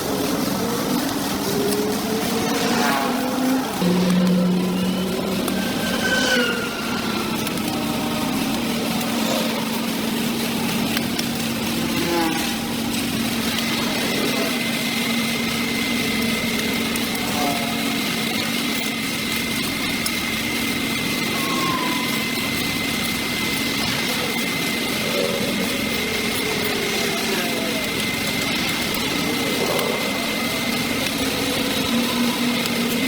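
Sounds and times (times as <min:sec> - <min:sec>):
brush cutter engine running: 0:00.0 - 0:33.0
steady high whine: 0:00.0 - 0:33.0.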